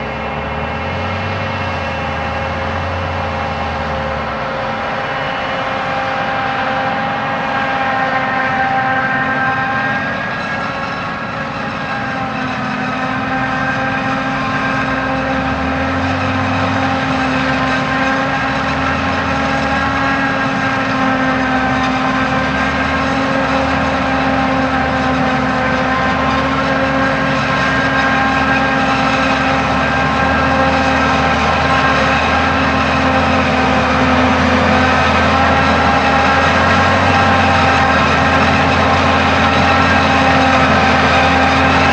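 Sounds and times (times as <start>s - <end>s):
heavy engine drone: 0.0s - 41.9s
high machine whine: 0.0s - 41.9s.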